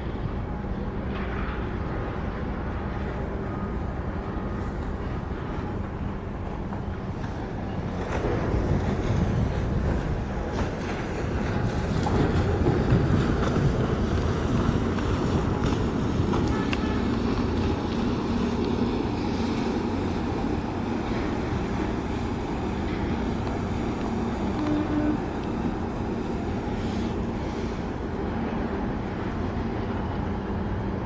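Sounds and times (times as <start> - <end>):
ship engine rumble: 0.0 - 31.0.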